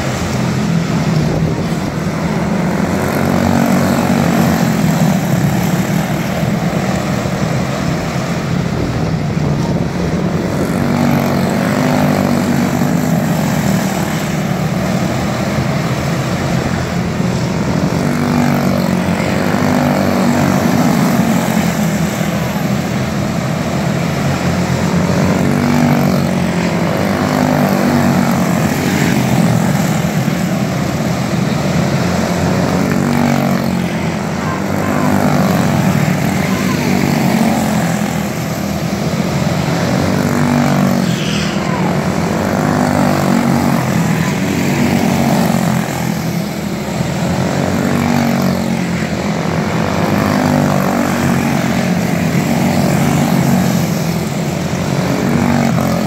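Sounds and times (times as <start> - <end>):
small race car engines buzzing: 0.0 - 56.0.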